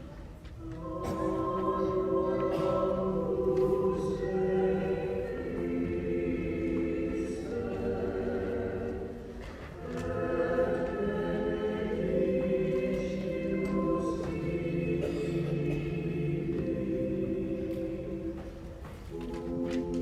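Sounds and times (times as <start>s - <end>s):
choir singing held chords: 0.6s - 20.0s.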